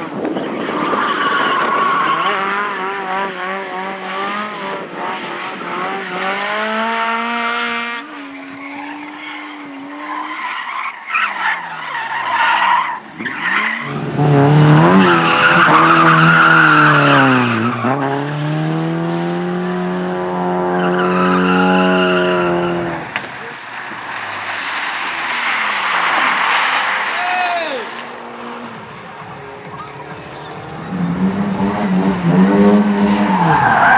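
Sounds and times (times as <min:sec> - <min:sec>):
race car engines at high revs: 0:00.0 - 0:33.9.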